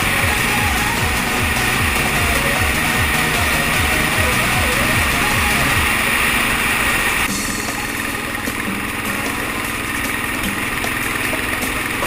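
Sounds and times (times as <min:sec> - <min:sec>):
go-kart engine running: 0:00.0 - 0:12.0.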